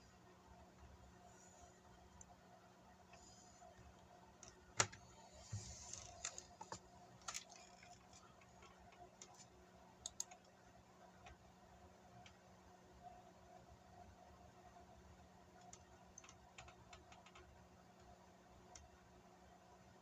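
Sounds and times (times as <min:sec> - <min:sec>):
faint clicks and ticks: 0:00.7 - 0:13.2, 0:14.7 - 0:19.9.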